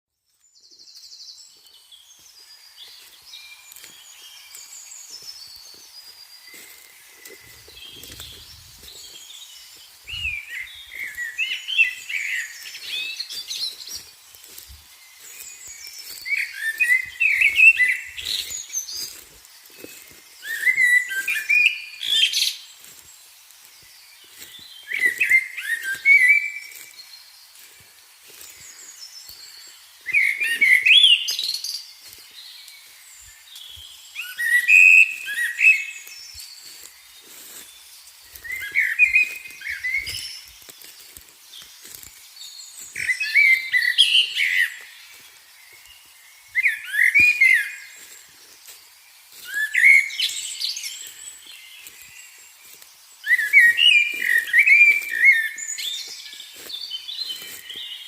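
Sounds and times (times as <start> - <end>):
faint bird chirping: 0.1 - 58.0.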